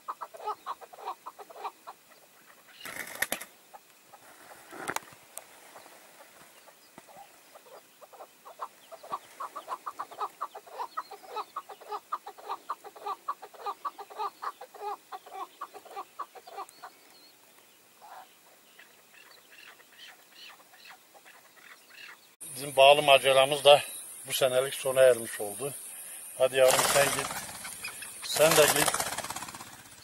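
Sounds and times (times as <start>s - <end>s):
partridge chuck calls: 0.0s - 4.2s, 5.7s - 17.2s, 18.0s - 30.0s.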